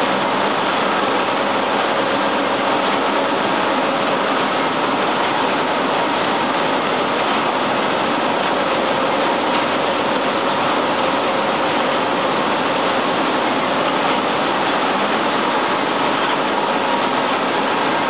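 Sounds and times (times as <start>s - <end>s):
grain machinery rushing noise: 0.0s - 18.0s.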